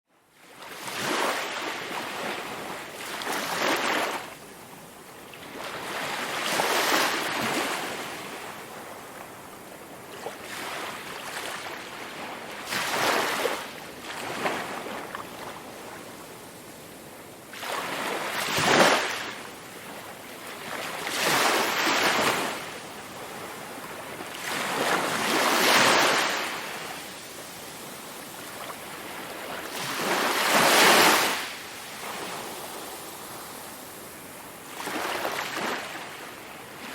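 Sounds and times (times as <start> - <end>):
sea waves breaking on shore: 0.4 - 36.9.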